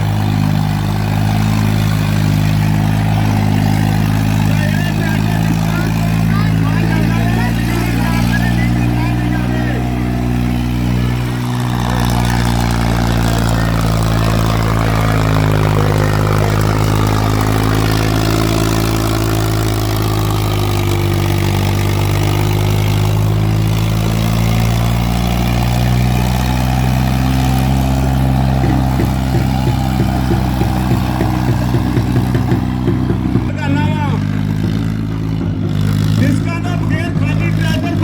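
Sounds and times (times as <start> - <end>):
tractor engine running under load: 0.0 - 38.0.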